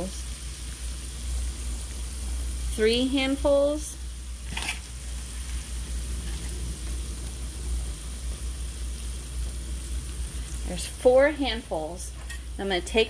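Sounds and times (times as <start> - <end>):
sausage sizzling in a skillet: 0.0 - 13.0.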